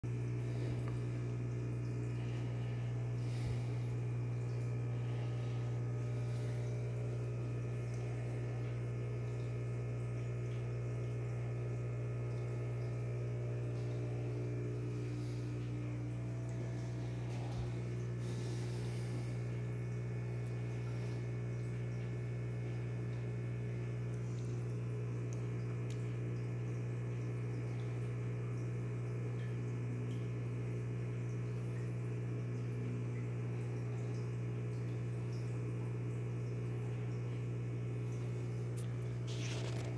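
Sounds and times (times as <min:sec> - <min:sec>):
aquarium equipment humming: 0:00.0 - 0:39.9.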